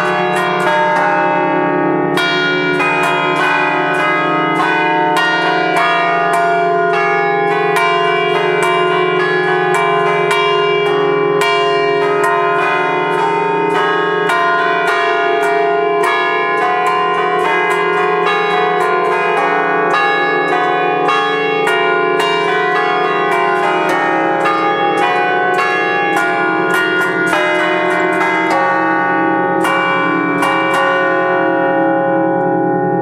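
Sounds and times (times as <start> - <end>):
church bells ringing: 0.0 - 33.0.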